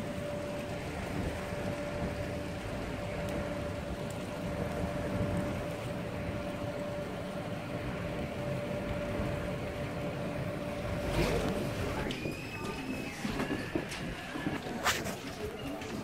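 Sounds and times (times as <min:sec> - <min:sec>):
steady mid-pitched hum: 0:00.0 - 0:15.7
harbour background rumble and hiss: 0:00.0 - 0:16.0.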